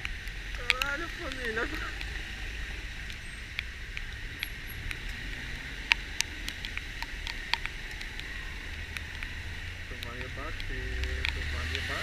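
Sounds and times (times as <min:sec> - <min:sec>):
raindrops ticking: 0:00.0 - 0:12.0
vehicle rumble: 0:00.0 - 0:12.0.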